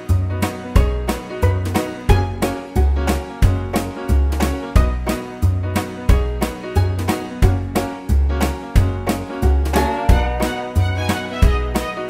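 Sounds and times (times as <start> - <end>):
music with bass beat: 0.1 - 12.0.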